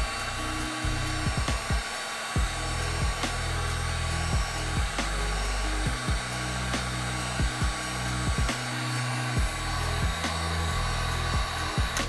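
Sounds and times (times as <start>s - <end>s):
background music with beat: 0.0s - 12.0s
heat gun blowing hot air: 0.0s - 12.0s.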